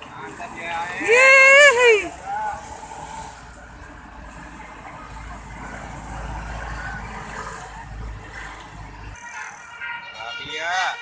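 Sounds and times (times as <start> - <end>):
bus engine rumbling: 0.0 - 9.8
road traffic noise: 0.0 - 11.0.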